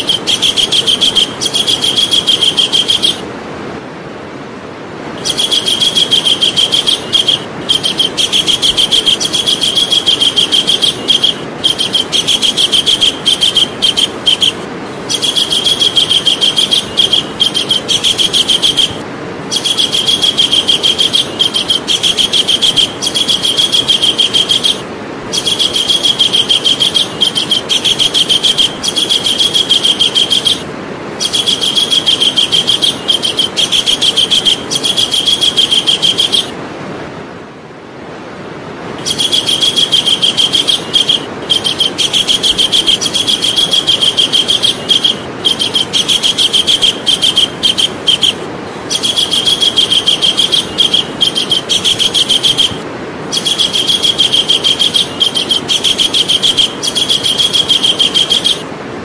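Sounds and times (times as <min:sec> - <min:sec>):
kingfisher rattling call: 0:00.0 - 0:03.3, 0:05.2 - 0:36.6, 0:39.0 - 0:58.7
background hiss: 0:00.0 - 0:59.0.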